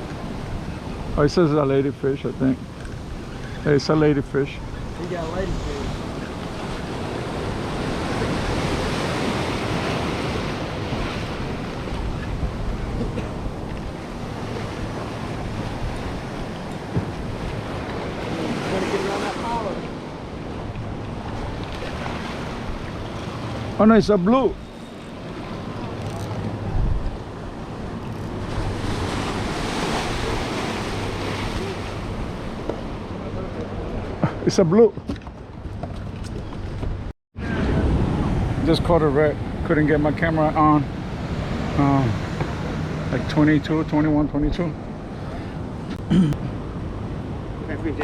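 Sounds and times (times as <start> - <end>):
ocean surf washing: 0.0 - 48.0
wind blowing across microphone: 0.0 - 48.0.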